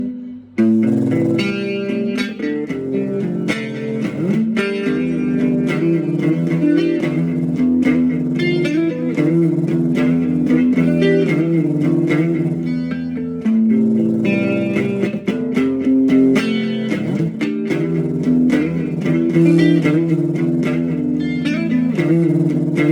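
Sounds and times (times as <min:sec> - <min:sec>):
plucked guitar notes: 0:00.0 - 0:22.9
low bass notes: 0:00.6 - 0:22.9.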